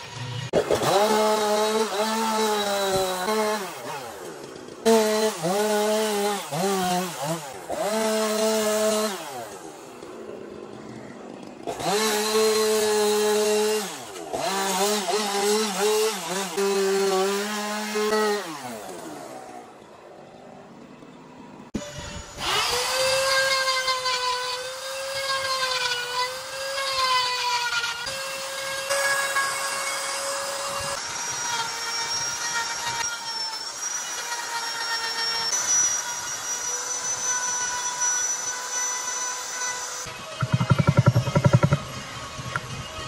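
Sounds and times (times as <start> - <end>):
chainsaw cutting wood: 0.0 - 19.8, 21.8 - 43.0
rotary tool grinding wood: 0.0 - 19.8, 22.0 - 43.0.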